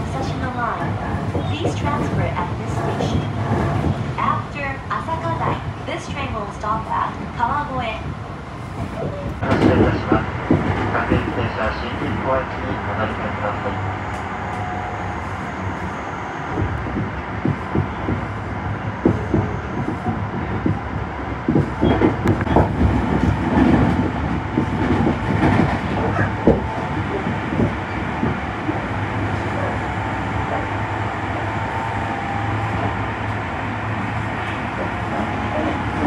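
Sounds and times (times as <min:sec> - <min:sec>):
train rumble from inside: 0:00.0 - 0:36.0.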